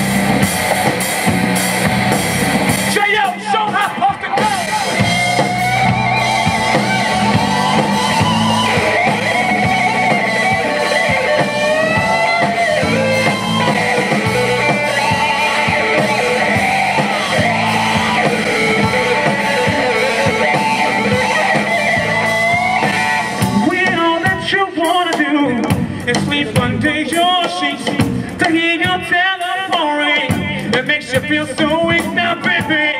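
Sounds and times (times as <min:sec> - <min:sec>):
electric guitar lead: 0:00.0 - 0:28.4
live rock band: 0:00.0 - 0:32.9.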